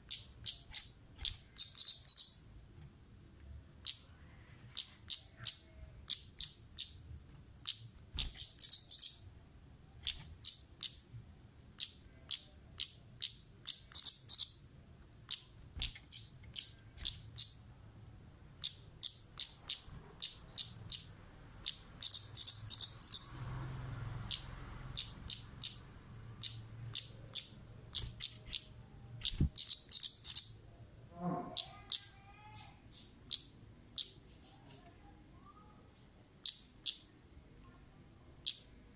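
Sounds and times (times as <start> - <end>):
songbird chirping: 0.0 - 2.6, 3.8 - 17.9, 18.5 - 35.8, 36.4 - 38.9.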